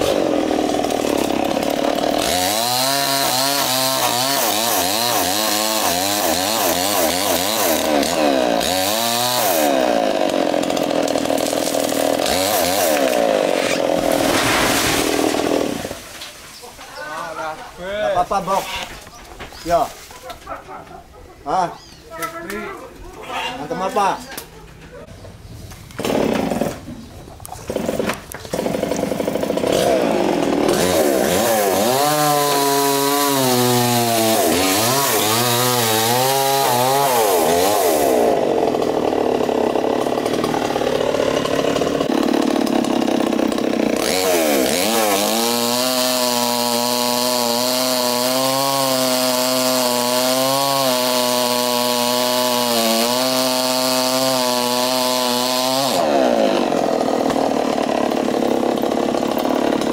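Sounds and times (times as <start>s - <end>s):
chainsaw cutting into tree trunk: 0.0s - 16.6s, 25.9s - 27.0s, 27.6s - 59.9s.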